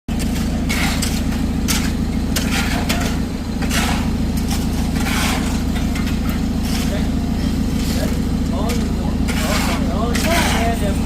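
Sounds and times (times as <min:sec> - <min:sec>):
shovels scraping through concrete: 0:00.1 - 0:07.1, 0:07.7 - 0:11.0
concrete mixer engine running: 0:00.1 - 0:11.0.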